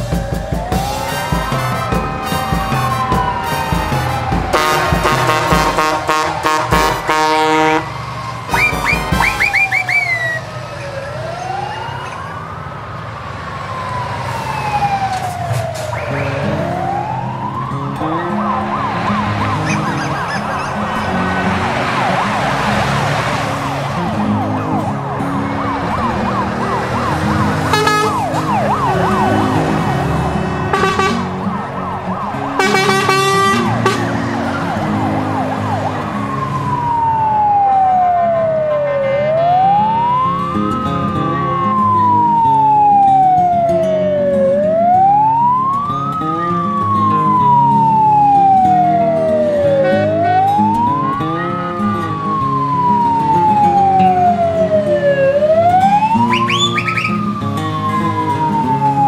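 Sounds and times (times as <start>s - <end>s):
background music: 0.0s - 10.3s, 16.0s - 59.0s
siren yelping and wailing: 0.0s - 59.0s.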